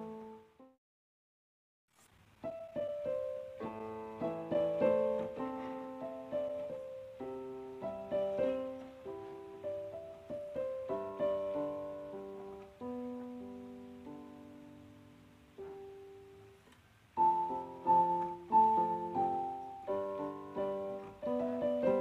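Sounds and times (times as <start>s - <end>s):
slow piano melody: 0.0s - 0.8s, 2.4s - 22.0s.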